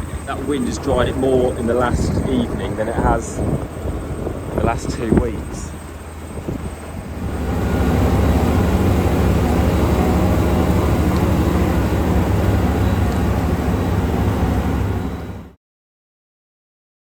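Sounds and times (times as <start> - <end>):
harvester mechanical drone: 0.0 - 15.6.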